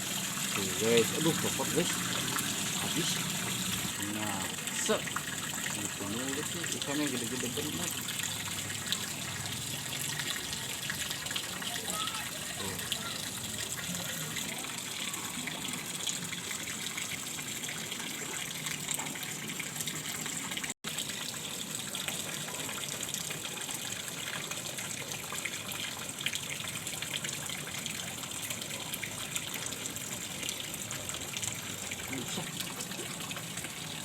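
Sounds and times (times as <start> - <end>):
rushing flowing water: 0.0 - 34.0.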